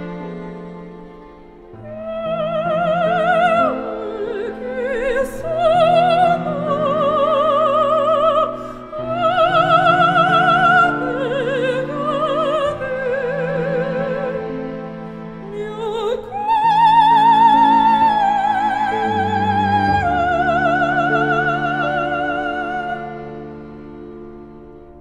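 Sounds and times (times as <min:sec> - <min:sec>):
operatic singing with vibrato: 0:00.0 - 0:24.2
sustained classical accompaniment: 0:00.0 - 0:25.0.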